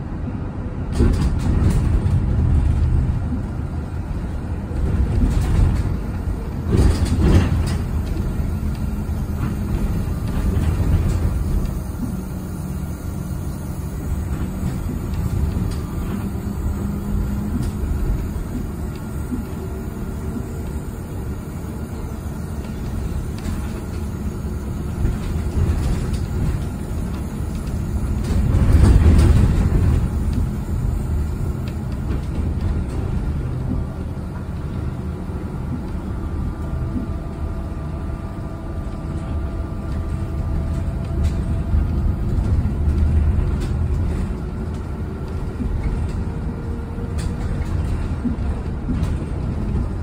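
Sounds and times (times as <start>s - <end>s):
bus road and tyre rumble: 0.0s - 50.0s.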